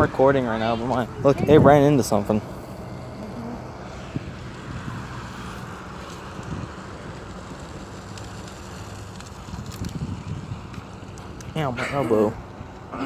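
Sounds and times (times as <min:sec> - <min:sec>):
low mechanical hum: 0:00.0 - 0:13.0
wind noise on microphone: 0:00.0 - 0:13.0.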